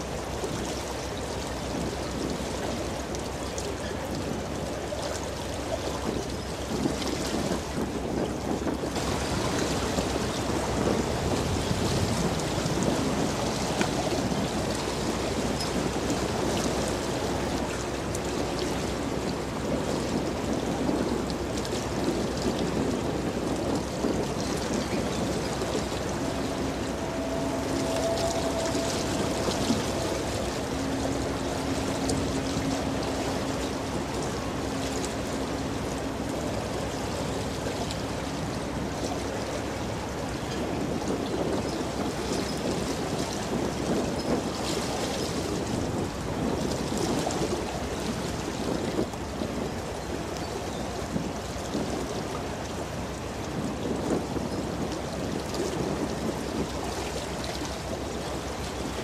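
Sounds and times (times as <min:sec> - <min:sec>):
bow wave rushing and splashing: 0:00.0 - 0:59.0.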